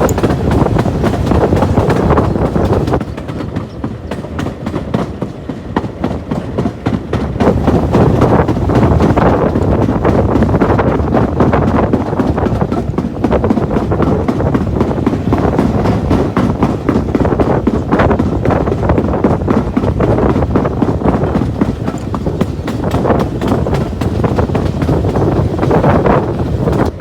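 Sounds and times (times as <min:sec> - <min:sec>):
wheel clicks and knocks: 0:00.0 - 0:05.0, 0:06.6 - 0:27.0
train rumbling on track: 0:00.0 - 0:27.0.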